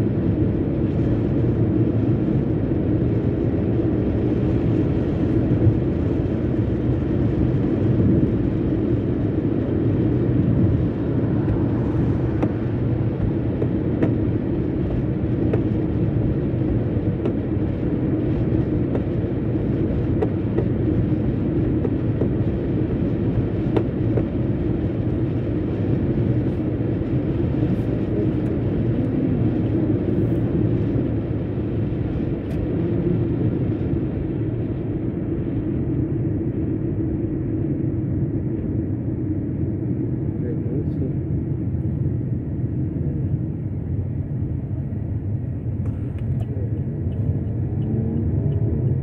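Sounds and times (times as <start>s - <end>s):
car road and tyre noise: 0.0s - 49.0s.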